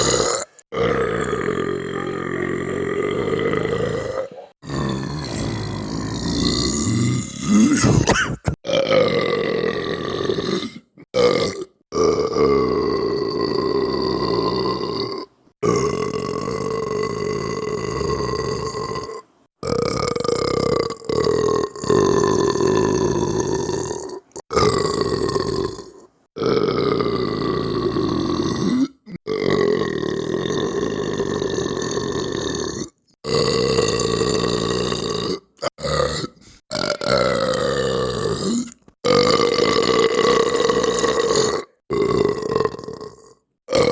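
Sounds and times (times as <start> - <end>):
long belches: 0.0 - 43.9.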